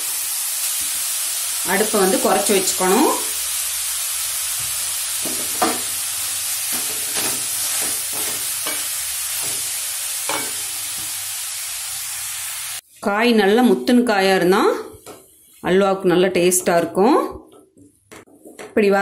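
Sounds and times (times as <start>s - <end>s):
pumpkin sizzling in a pan: 0.0s - 16.5s.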